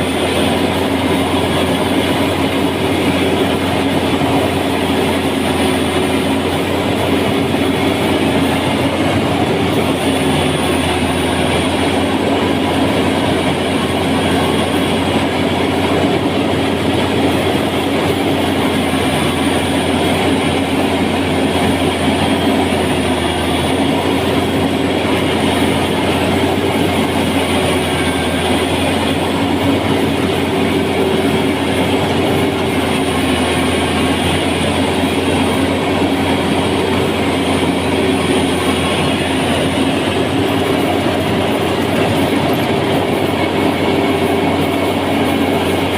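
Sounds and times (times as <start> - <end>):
machine engine droning: 0.0 - 45.9.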